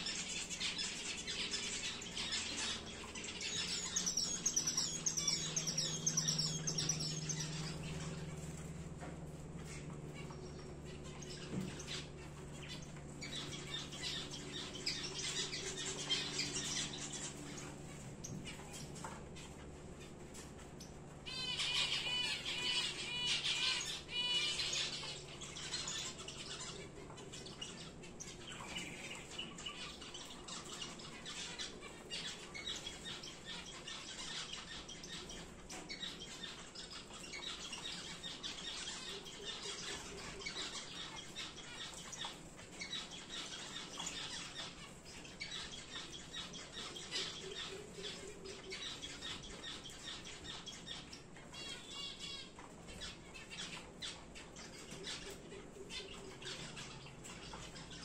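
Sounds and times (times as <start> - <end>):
bird singing patterned notes: 0.0 - 58.0
finches chirping: 0.0 - 58.0.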